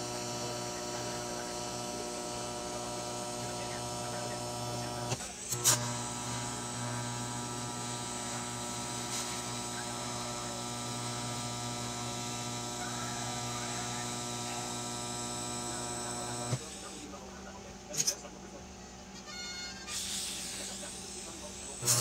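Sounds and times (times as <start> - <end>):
welding arc humming: 0.0 - 17.2, 19.9 - 22.0.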